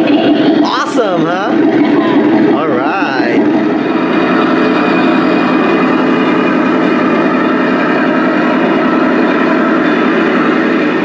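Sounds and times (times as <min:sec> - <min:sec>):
toy tank engine drone: 0:00.0 - 0:11.0.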